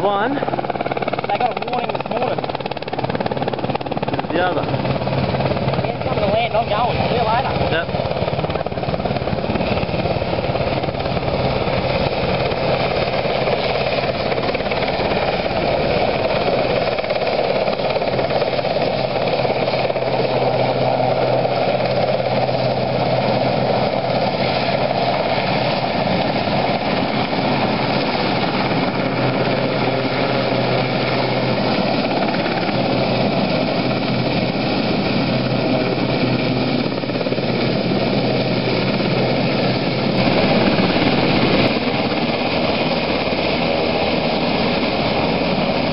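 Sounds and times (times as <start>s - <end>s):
helicopter rotors and engine: 0.0s - 45.9s.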